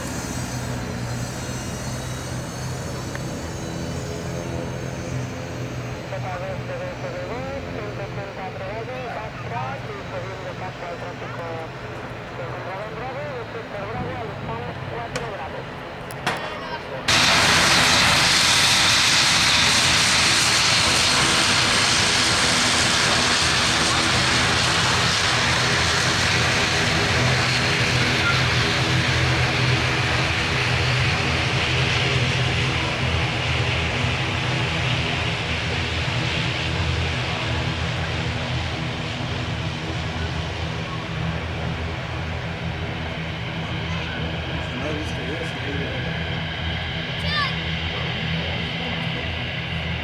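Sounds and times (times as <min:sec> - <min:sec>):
jet engines whining: 0:00.0 - 0:50.0.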